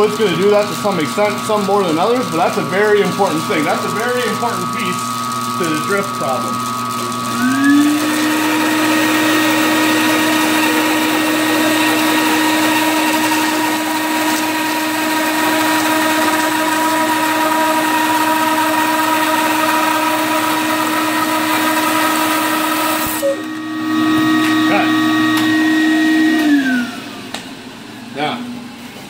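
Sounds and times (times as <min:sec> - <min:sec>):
bandsaw motor hum: 0:00.0 - 0:29.0.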